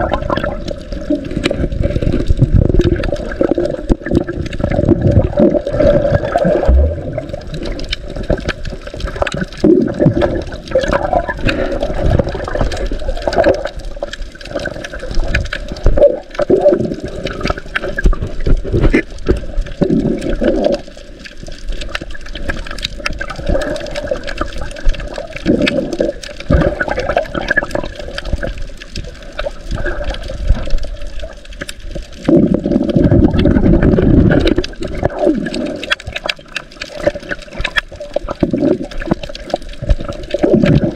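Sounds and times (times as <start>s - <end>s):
water rushing and gurgling underwater: 0.0s - 40.9s
faint clicks: 7.2s - 40.9s.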